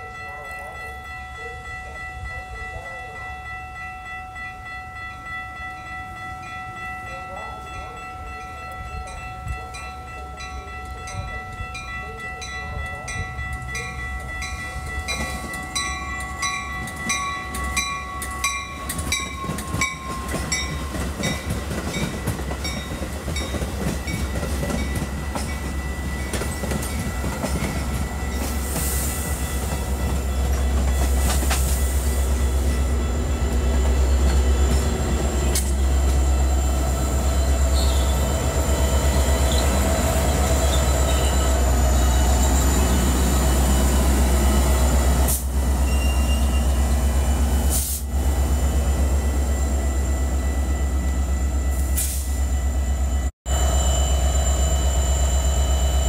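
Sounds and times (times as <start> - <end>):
crossing bell ringing: 0.0 - 56.0
diesel locomotive engine rumble: 0.0 - 56.0.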